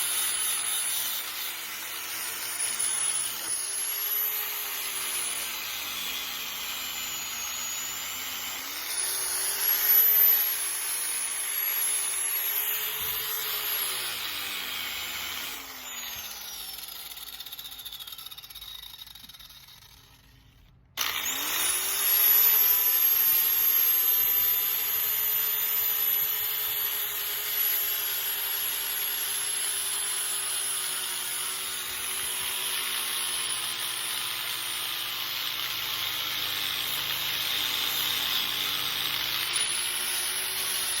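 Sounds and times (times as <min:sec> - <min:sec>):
angle grinder grinding metal: 0:00.0 - 0:41.0.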